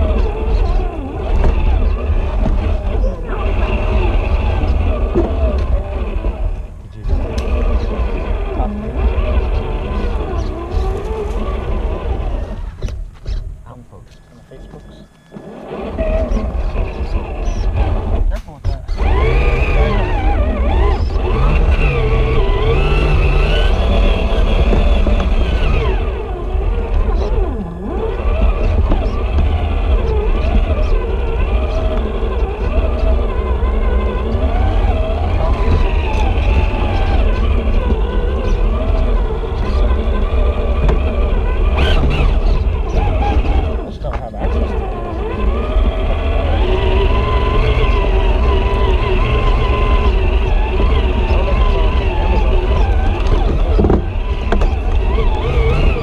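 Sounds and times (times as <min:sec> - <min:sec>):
electric motor and gear whine: 0:00.0 - 0:56.0
low rumble: 0:00.0 - 0:56.0.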